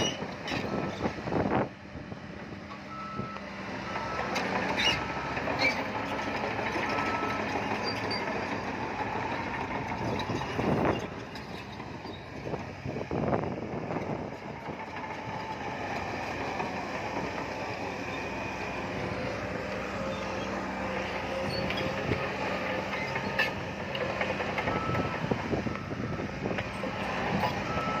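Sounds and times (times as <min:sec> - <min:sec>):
diesel engine under load: 0:00.0 - 0:28.0.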